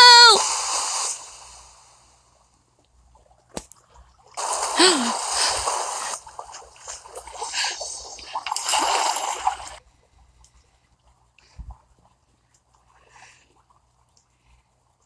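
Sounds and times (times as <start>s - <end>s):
water splashing and sloshing: 0.1s - 15.0s.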